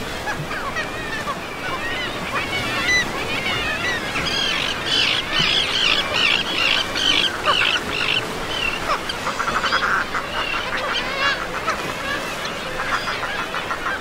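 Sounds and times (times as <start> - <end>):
seabirds calling harshly: 0.0 - 14.0.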